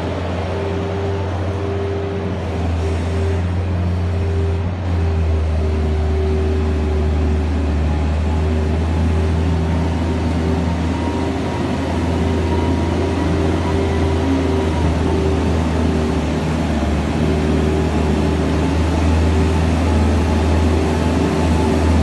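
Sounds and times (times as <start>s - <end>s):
loader engine droning: 0.0s - 22.0s.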